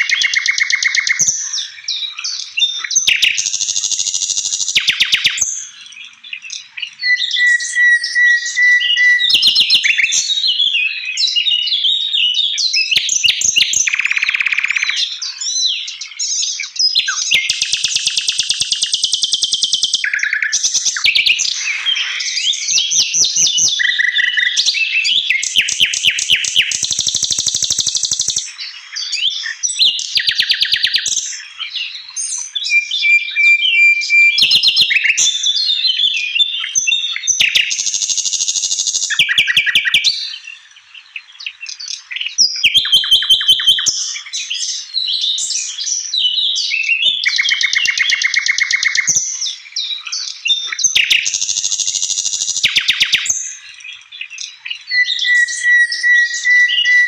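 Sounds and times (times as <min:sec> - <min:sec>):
bird song with rattling trills: 0:00.0 - 0:57.0.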